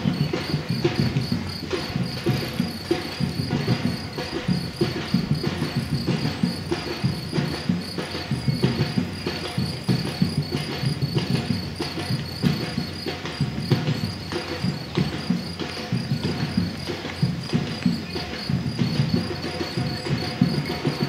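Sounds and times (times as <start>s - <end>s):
runners' footsteps on asphalt: 0.0s - 21.0s.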